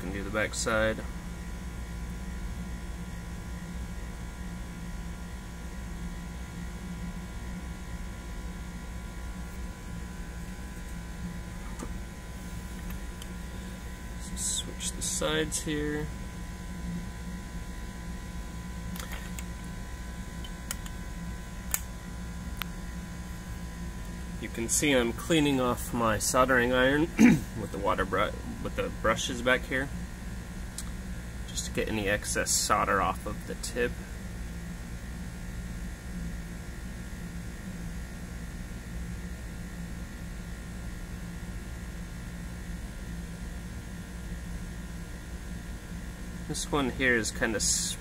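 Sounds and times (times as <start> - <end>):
low electrical hum: 0.0 - 48.0.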